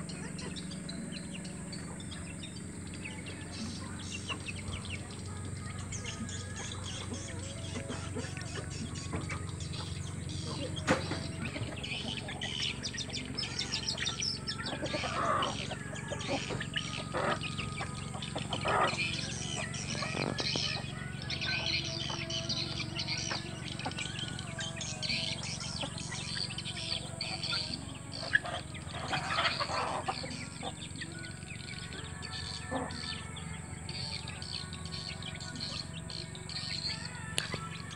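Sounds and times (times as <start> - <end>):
chickens clucking: 0.0 - 37.9
chicks cheeping: 0.0 - 37.9.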